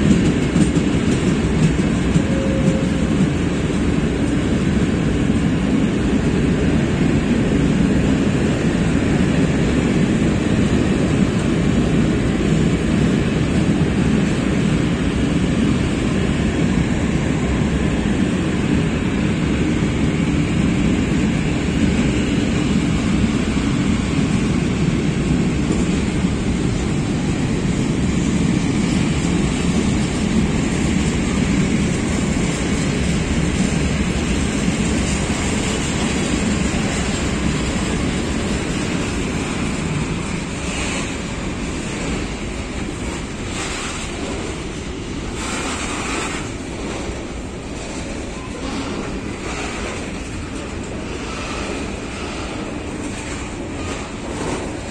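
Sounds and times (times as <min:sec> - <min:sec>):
freight train rumbling past: 0:00.0 - 0:54.9.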